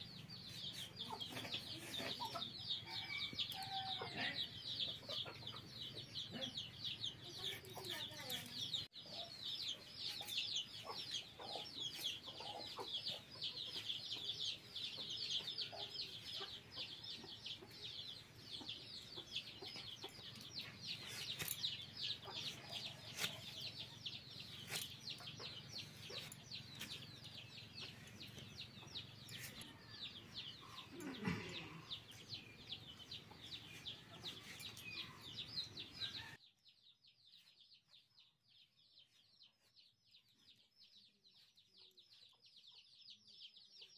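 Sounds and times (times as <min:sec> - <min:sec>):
chickens chirping: 0:00.0 - 0:36.5, 0:37.3 - 0:43.9.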